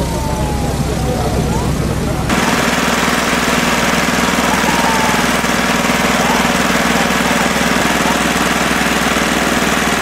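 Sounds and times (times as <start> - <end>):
engine running with fast pulse: 0.0 - 10.0.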